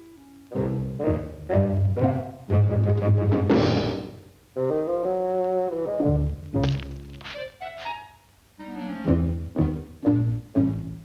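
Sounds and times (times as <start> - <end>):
low repeated orchestral notes: 0.0 - 11.0.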